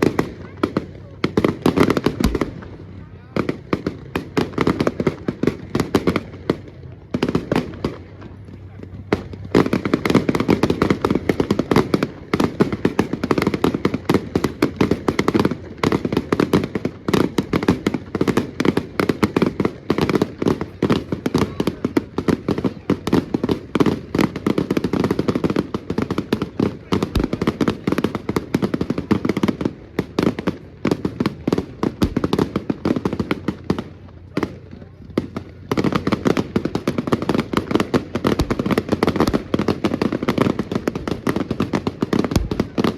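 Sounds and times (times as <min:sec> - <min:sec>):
firecrackers banging rapidly: 0:00.0 - 0:42.9.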